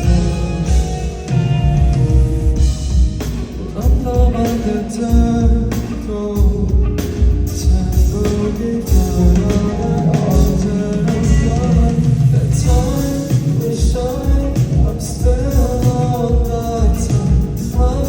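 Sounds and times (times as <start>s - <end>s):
amplified backing track with bass: 0.0s - 18.0s
person singing live pop song: 0.0s - 18.0s.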